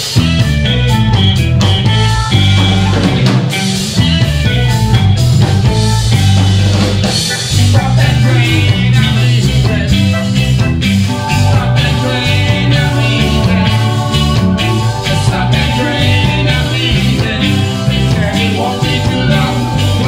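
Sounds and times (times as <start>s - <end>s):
heavy electric bass line: 0.0s - 20.0s
reggae band playing: 0.0s - 20.0s.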